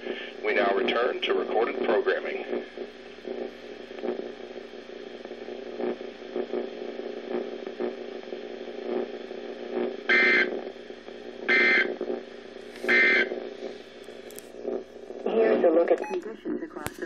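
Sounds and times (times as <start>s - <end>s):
mains hum: 0.0s - 17.0s
radio static: 0.0s - 17.0s.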